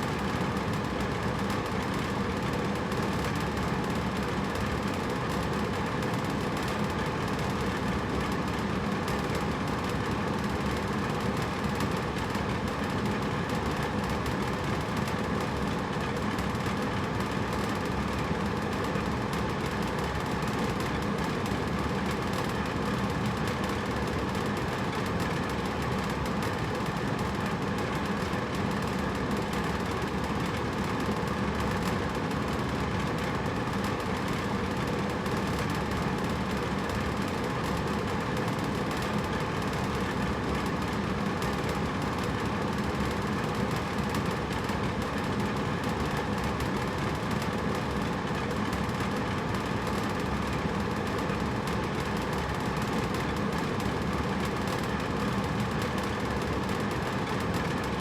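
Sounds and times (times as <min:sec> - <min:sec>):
air conditioner running: 0:00.0 - 0:58.0.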